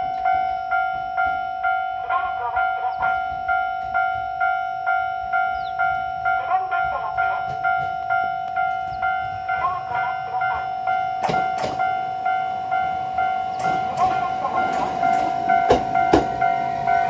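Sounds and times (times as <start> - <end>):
level crossing bell dinging: 0.0 - 17.0.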